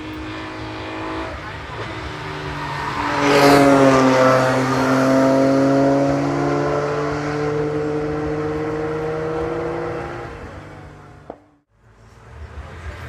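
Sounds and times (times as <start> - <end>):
race car engine passing: 0.0 - 11.6.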